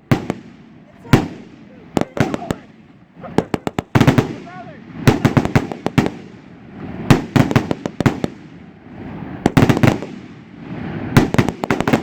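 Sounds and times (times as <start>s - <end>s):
fireworks bangs: 0.0s - 12.0s
fireworks hiss: 0.0s - 12.0s.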